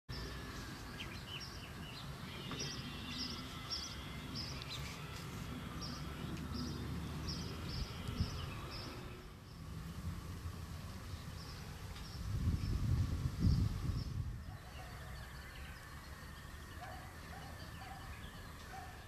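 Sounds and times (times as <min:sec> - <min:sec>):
bird chirping: 0:00.1 - 0:09.7, 0:11.0 - 0:19.0.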